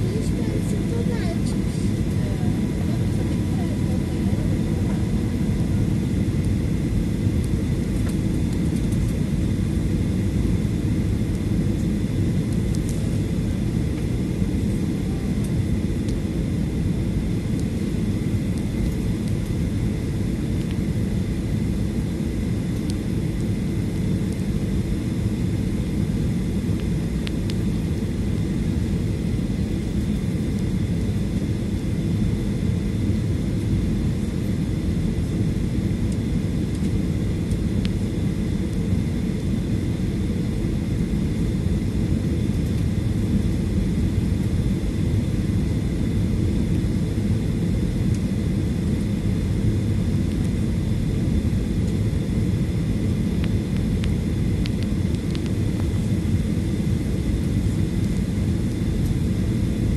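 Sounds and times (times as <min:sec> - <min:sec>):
jet engine drone: 0:00.0 - 0:59.9.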